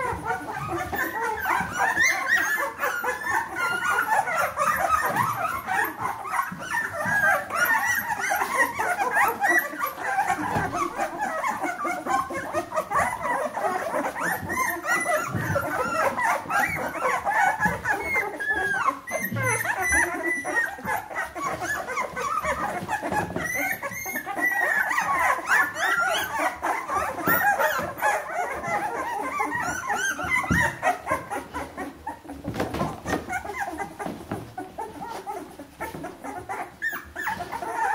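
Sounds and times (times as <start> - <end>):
puppies whimpering and squeaking: 0.0 - 37.9.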